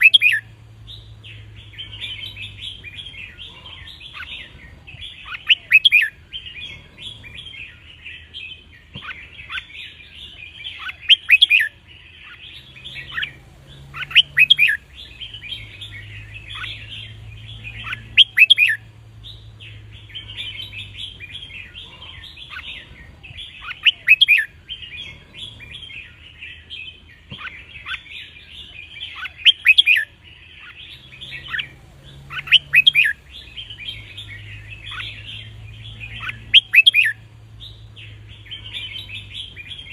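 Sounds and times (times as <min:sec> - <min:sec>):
bulbuls chattering and singing: 0:00.0 - 0:39.9.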